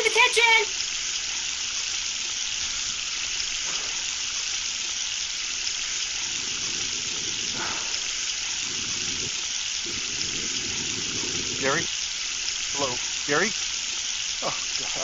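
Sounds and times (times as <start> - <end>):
water running from faucet: 0.0 - 15.0.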